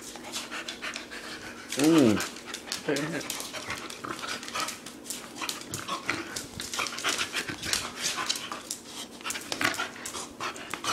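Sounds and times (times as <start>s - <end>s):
dog panting: 0.0s - 10.9s.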